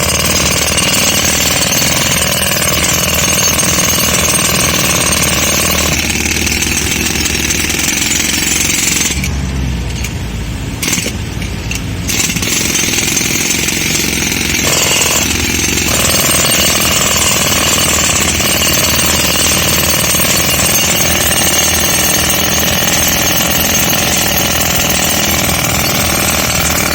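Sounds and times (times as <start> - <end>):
jackhammer breaking concrete: 0.0 - 9.3, 10.8 - 11.2, 12.1 - 26.9.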